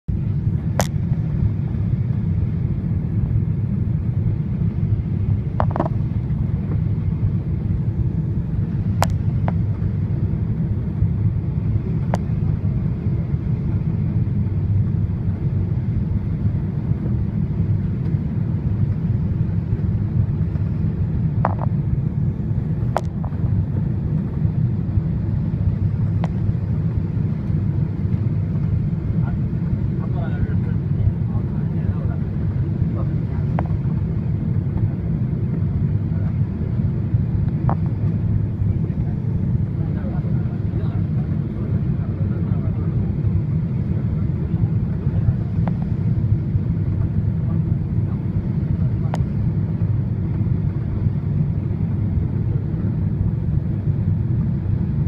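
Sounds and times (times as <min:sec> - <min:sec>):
airliner cabin rumble: 0:00.1 - 0:55.0.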